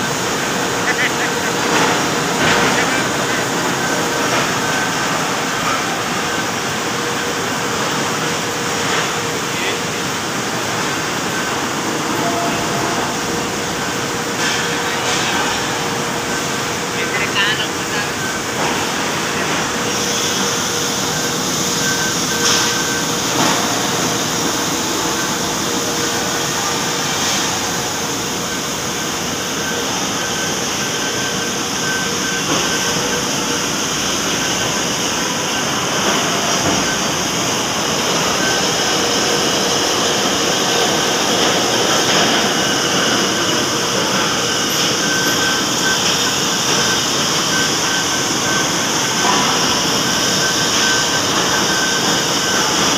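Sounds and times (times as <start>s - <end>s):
high machine whine: 0.0s - 52.9s
lathe running and cutting: 0.0s - 52.9s.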